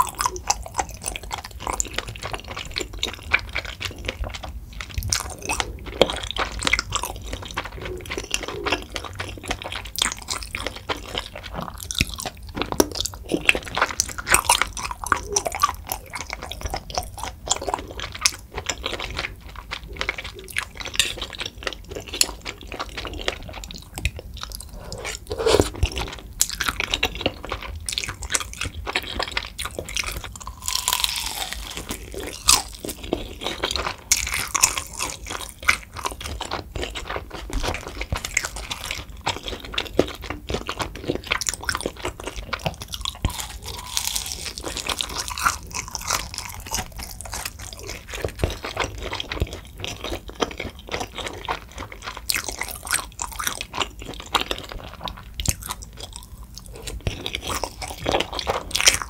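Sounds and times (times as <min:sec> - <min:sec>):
wet chewing: 0:00.0 - 0:59.0
crunchy bites: 0:05.0 - 0:59.0.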